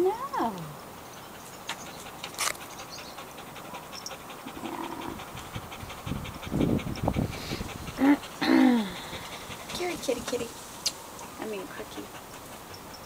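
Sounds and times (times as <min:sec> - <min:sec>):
dog panting rapidly: 0:01.1 - 0:13.0.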